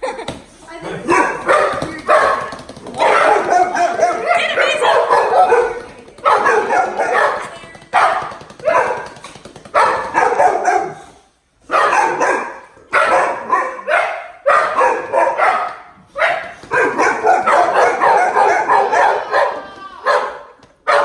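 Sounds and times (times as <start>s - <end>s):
dog barking: 0.9s - 21.0s.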